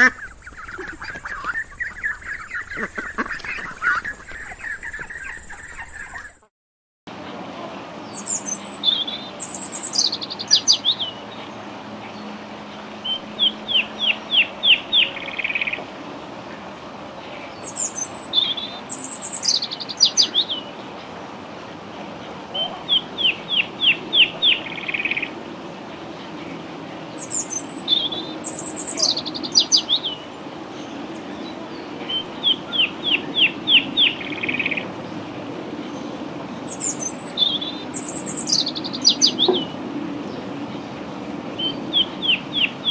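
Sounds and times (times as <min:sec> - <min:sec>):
songbird chirps and trill: 0:00.0 - 0:06.5, 0:07.4 - 0:42.9.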